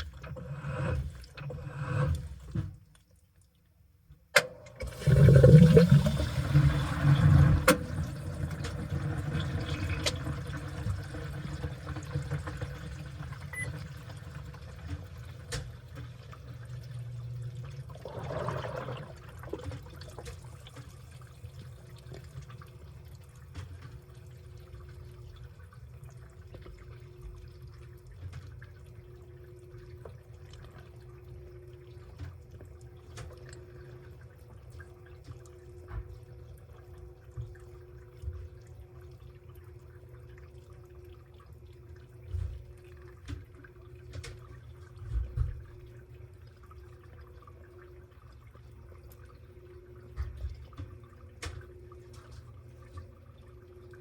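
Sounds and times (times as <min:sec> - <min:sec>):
water gushing into drum: 0:00.0 - 0:02.8, 0:04.6 - 0:54.0
faint steady hum: 0:00.0 - 0:54.0.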